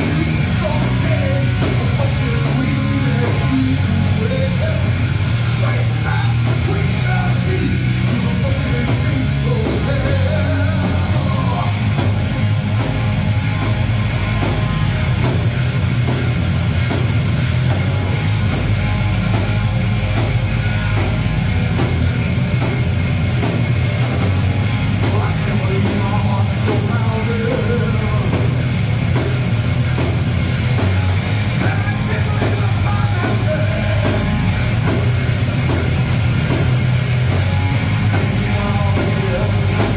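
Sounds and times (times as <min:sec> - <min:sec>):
live heavy rock band: 0:00.0 - 0:39.9.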